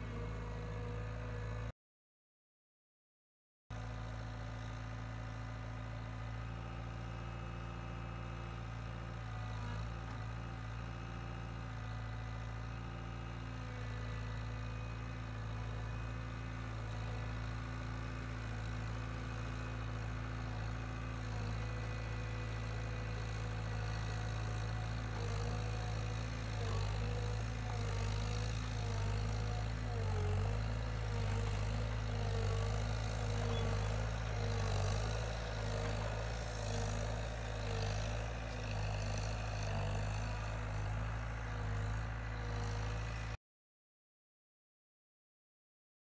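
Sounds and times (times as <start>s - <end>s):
diesel engine running: 3.8s - 43.4s.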